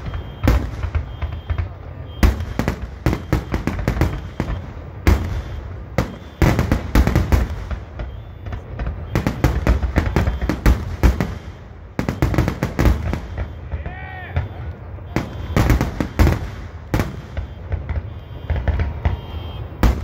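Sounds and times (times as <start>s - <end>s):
fireworks shells bursting: 0.0s - 20.0s.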